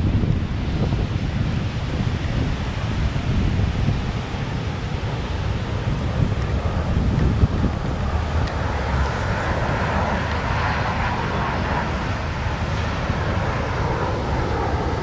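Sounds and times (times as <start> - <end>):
jet passing overhead: 0.0 - 15.0
wind on microphone: 0.0 - 15.0.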